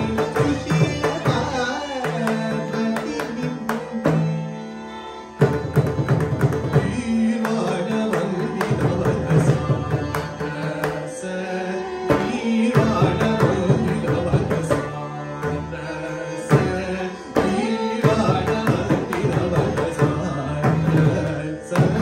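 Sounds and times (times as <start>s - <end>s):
man singing: 0.0s - 4.7s, 6.4s - 22.0s
violin accompaniment: 0.0s - 22.0s.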